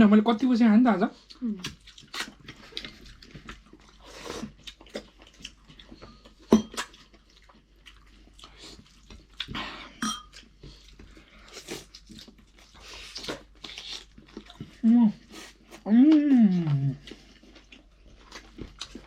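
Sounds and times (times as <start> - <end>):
chewing: 1.2 - 19.0.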